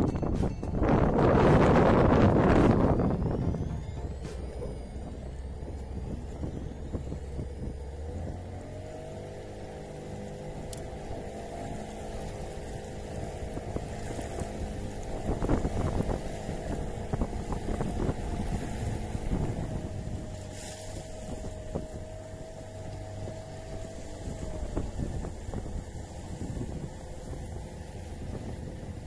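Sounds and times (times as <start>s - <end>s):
outboard motor running: 0.0s - 29.0s
rushing water: 0.0s - 29.0s
wind: 0.0s - 29.0s.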